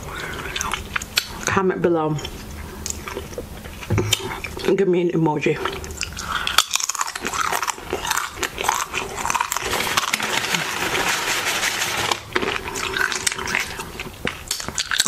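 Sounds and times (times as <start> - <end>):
chewing crunchy chips: 0.0 - 4.8, 5.6 - 15.0.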